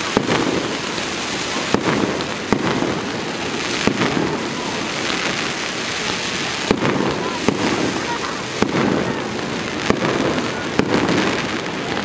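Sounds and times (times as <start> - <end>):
fireworks crackling hiss: 0.0 - 12.0
sharp firework bangs: 0.0 - 12.0.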